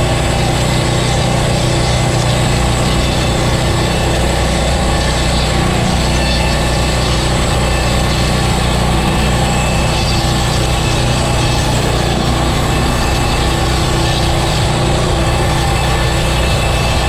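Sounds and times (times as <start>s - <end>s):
gas engine running: 0.0s - 17.0s.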